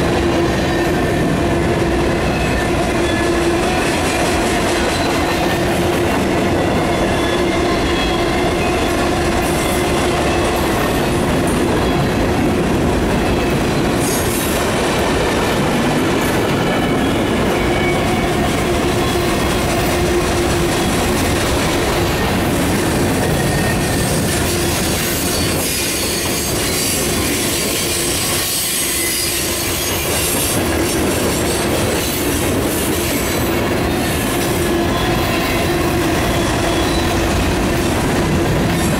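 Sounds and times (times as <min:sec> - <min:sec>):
freight cars rolling on rails: 0:00.0 - 0:38.9.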